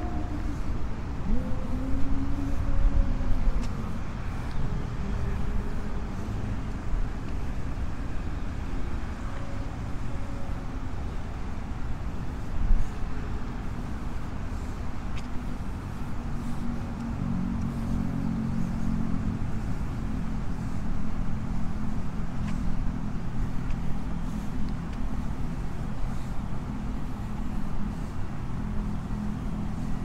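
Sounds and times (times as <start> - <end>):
road traffic noise: 0.0 - 30.0
vehicle engine rumbling: 0.0 - 30.0.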